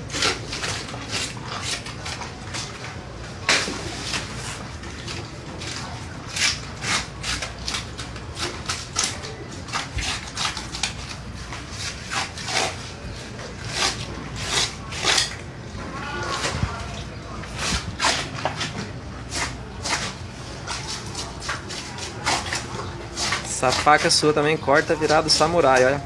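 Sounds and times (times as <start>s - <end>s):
knife scraping fish skin: 0.0s - 15.5s, 16.2s - 24.4s.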